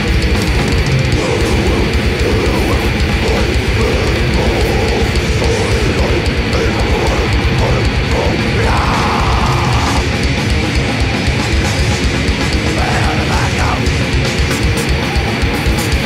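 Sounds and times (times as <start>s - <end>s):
distorted electric guitars: 0.0s - 16.0s
fast dense drumming: 0.0s - 16.0s.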